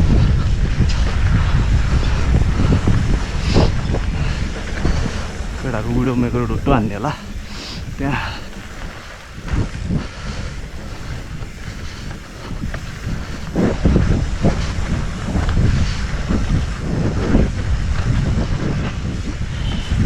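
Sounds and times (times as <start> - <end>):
mountain bike rattling on trail: 0.0 - 20.0
wind buffeting microphone: 0.0 - 20.0.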